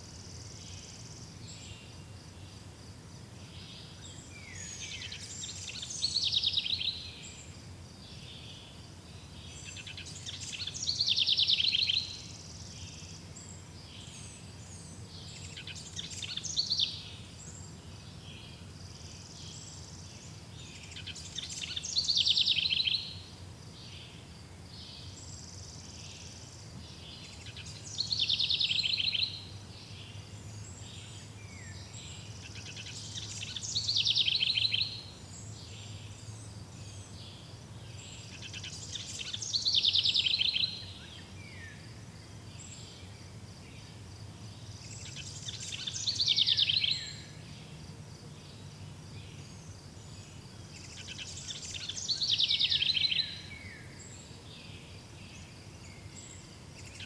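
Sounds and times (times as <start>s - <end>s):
songbird trilling song: 3.3s - 57.0s.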